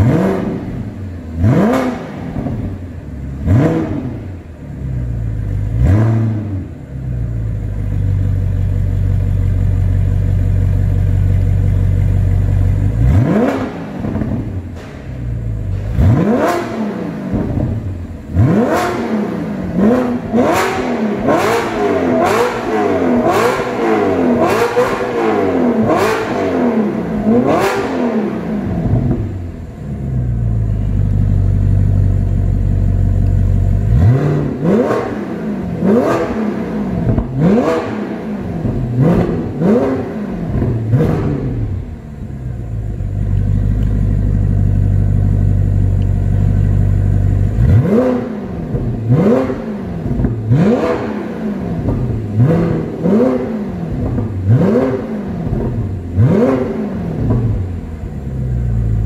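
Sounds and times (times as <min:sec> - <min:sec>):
sports car engine idling and revving: 0:00.0 - 0:59.0.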